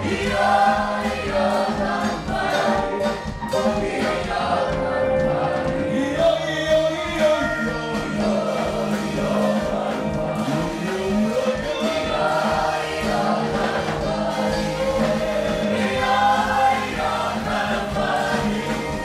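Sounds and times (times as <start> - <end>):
choir singing gospel music: 0.0 - 19.0.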